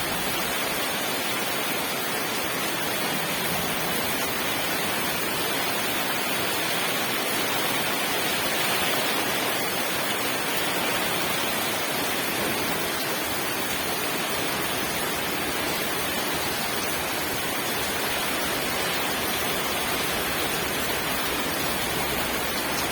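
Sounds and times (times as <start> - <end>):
steady rain: 0.0 - 22.9.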